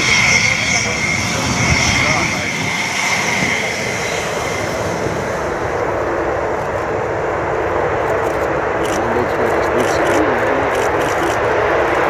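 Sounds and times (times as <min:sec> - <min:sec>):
jet engine roaring at takeoff: 0:00.0 - 0:12.0.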